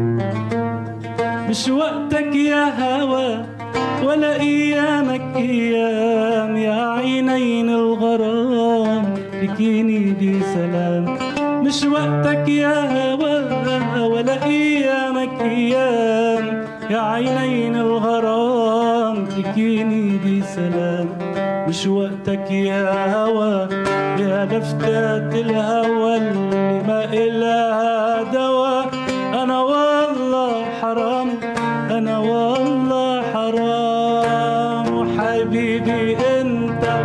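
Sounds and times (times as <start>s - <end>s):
oud plucked melody: 0.0s - 37.0s
man singing: 1.0s - 37.0s.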